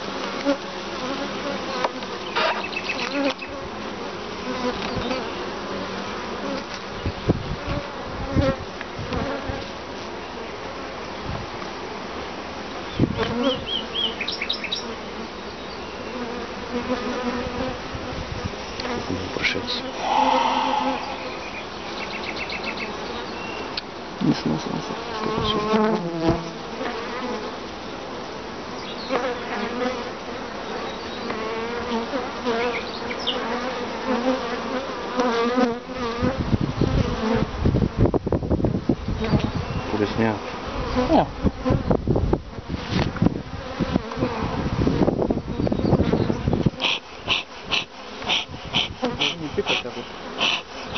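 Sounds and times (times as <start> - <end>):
honeybees buzzing: 0.0 - 38.0, 38.6 - 50.9.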